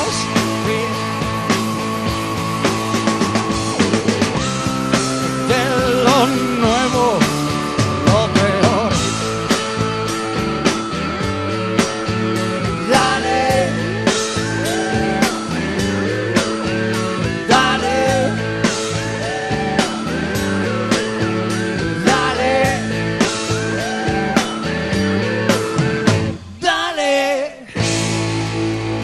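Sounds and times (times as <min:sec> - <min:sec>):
drum kit beat: 0:00.0 - 0:26.8
rock band playing live: 0:00.0 - 0:29.0.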